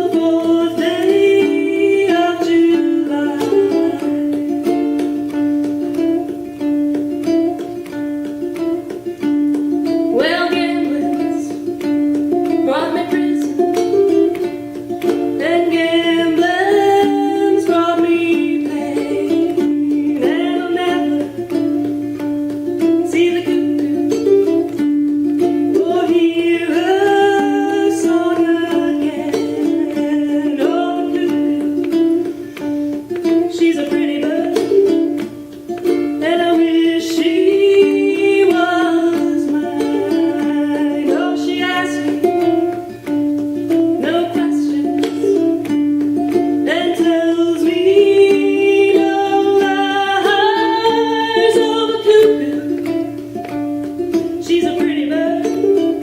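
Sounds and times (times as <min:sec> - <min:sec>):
ukulele picked rhythm: 0:00.0 - 0:56.0.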